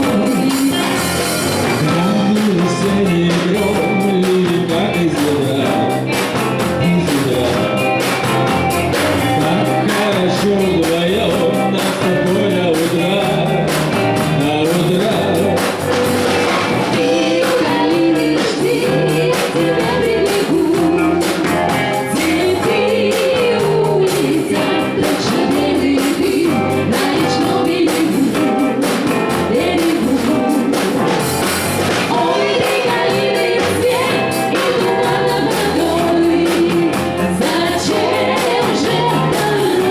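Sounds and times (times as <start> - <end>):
person singing: 0.0 - 8.2, 9.0 - 16.1, 16.9 - 31.4, 32.1 - 39.9
live band playing: 0.0 - 39.9.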